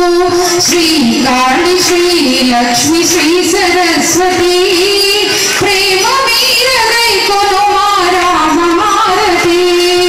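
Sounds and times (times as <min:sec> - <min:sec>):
woman singing devotional melody: 0:00.0 - 0:10.0.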